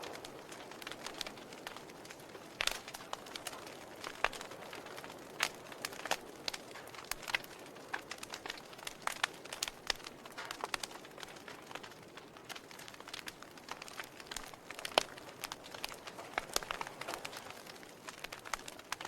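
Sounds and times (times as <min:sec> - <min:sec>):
faint fire hiss: 0:00.0 - 0:19.0
logs crackling in fireplace: 0:00.0 - 0:19.0.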